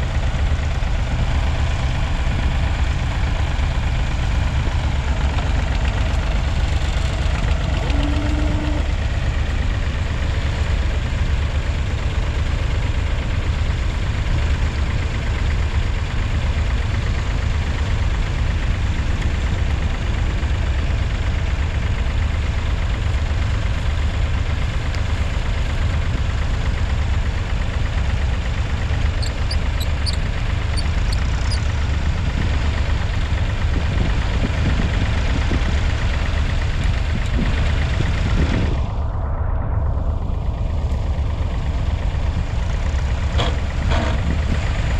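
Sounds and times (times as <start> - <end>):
diesel engine chugging: 0.0 - 44.9.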